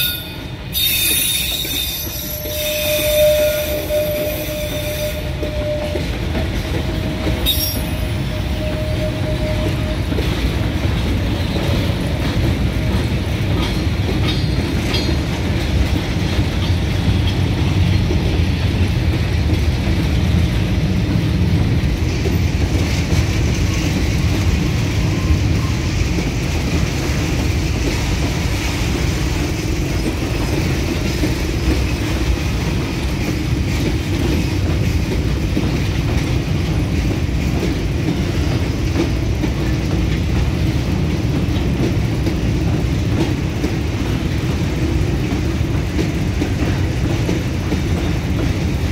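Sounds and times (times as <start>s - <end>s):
freight train wheels rumbling: 0.0s - 48.9s.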